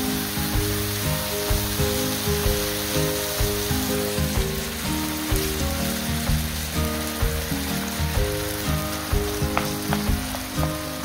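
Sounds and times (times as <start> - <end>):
background music of held notes: 0.0 - 11.0
mushrooms sizzling in a frying pan: 0.0 - 11.0.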